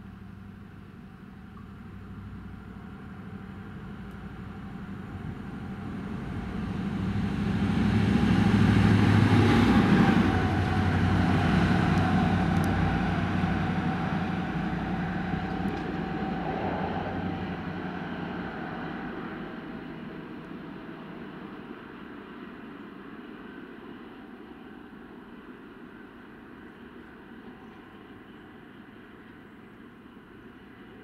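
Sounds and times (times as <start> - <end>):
locomotive engine drone passing: 0.0 - 31.0.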